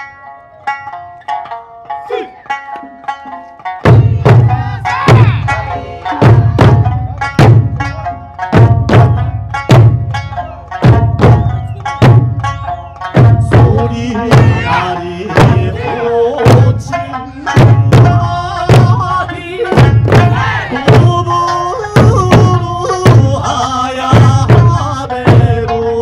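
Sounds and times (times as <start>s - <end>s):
small hand drums: 0.0s - 26.0s
folk song singing: 2.1s - 9.6s, 10.2s - 26.0s
large barrel drums struck: 3.8s - 23.5s, 24.1s - 25.7s.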